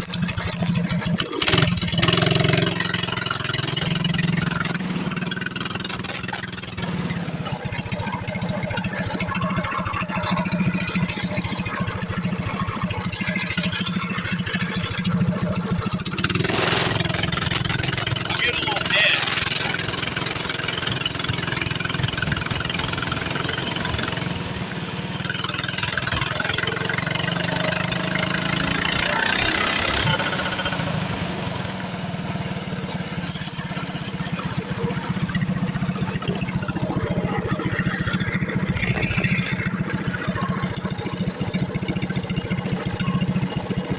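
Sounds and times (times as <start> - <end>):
mini bike engine revving and idling: 0.0 - 43.9.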